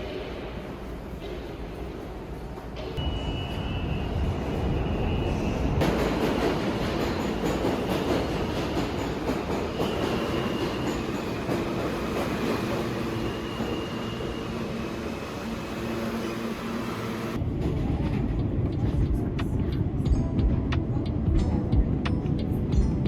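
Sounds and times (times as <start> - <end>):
train wheels rumbling on rail: 3.7 - 23.0.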